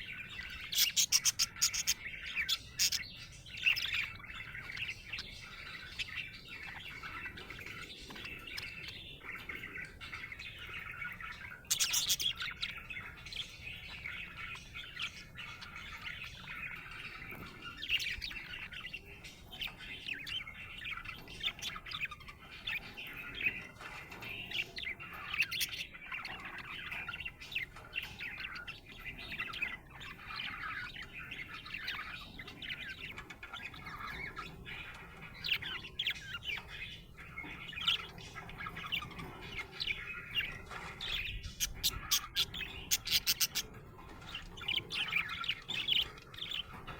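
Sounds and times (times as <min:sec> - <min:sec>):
budgerigar chirping: 0:00.0 - 0:46.9.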